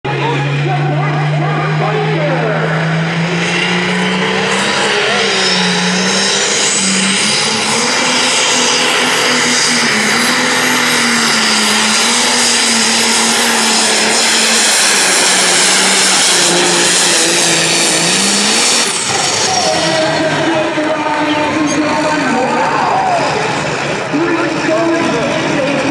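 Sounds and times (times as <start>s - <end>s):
high engine whine: 0.0s - 25.9s
tractor diesel engine under load: 0.0s - 25.9s.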